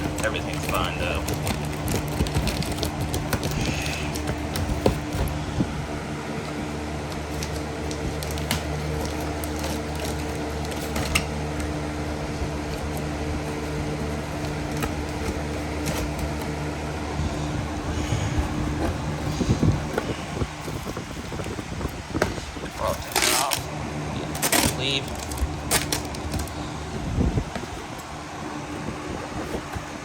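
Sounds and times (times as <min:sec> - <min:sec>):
low mechanical hum: 0:00.0 - 0:30.0
packaging crinkling: 0:00.0 - 0:30.0.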